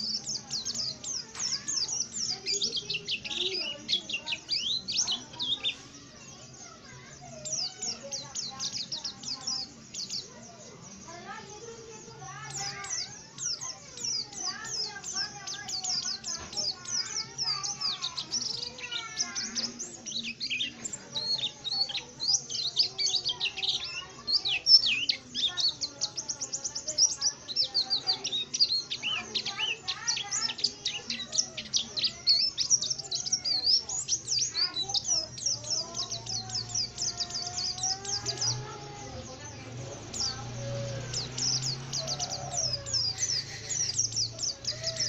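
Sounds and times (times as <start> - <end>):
bird chirping and twittering: 0.0 - 45.0.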